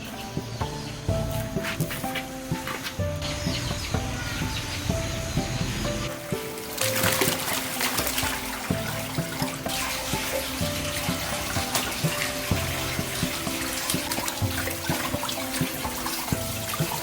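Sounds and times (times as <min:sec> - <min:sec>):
background music: 0:00.0 - 0:17.0
water pouring and splashing: 0:00.0 - 0:17.0.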